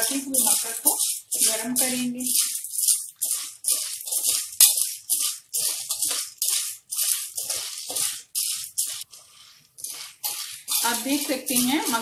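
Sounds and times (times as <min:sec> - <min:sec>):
metal spatula stirring: 0:00.0 - 0:12.0
popcorn kernels rattling in pot: 0:00.0 - 0:12.0.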